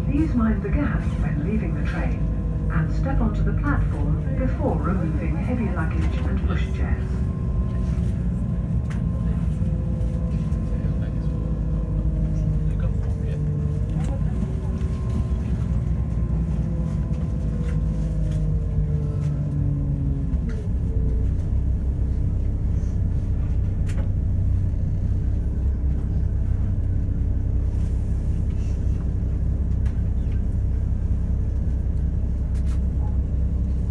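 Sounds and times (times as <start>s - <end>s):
diesel engine drone: 0.0s - 33.9s
train wheels rumbling on track: 0.0s - 33.9s.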